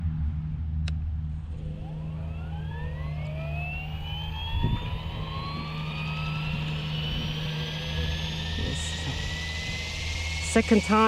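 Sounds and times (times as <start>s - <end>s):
steady low hum: 0.0s - 11.0s
helicopter motor whine rising: 1.3s - 11.0s.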